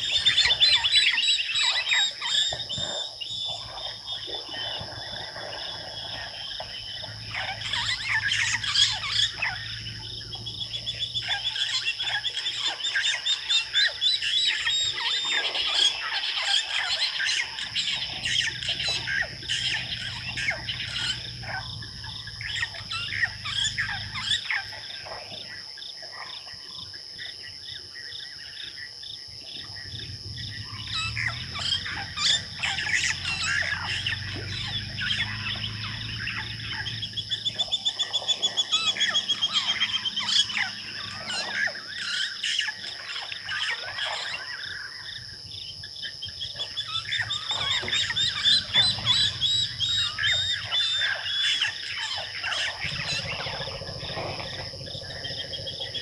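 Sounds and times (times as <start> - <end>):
fast run of repeated bird notes: 0.0 - 25.2, 29.6 - 56.0
birds calling and chirping: 0.0 - 56.0
high insect drone: 0.0 - 56.0.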